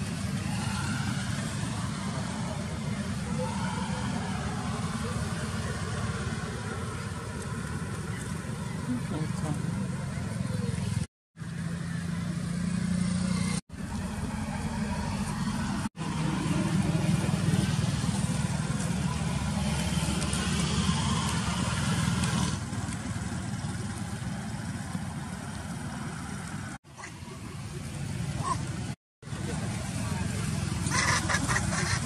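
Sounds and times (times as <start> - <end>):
low rumble of road traffic: 0.0 - 32.0.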